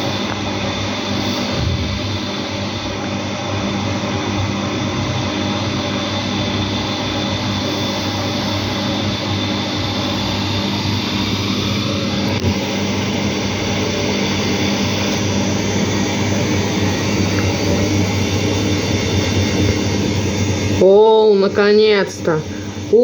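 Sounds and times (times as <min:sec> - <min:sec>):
washing machine motor whine: 0:00.0 - 0:23.0.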